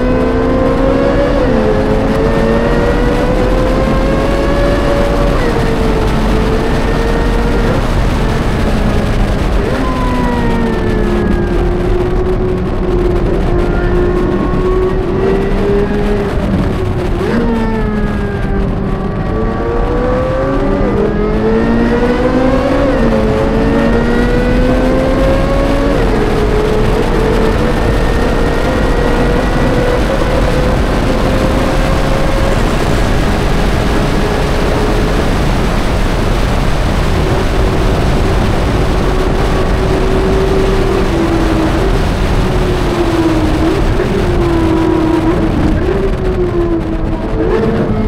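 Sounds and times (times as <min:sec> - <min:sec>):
sports car engine revving: 0:00.0 - 0:48.0.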